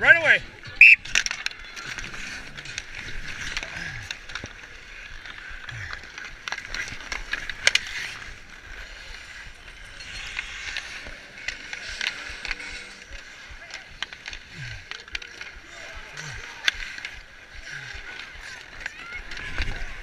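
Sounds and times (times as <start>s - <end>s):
hockey sticks and puck clicks: 0.1s - 20.0s
skate blades scraping ice: 0.1s - 20.0s.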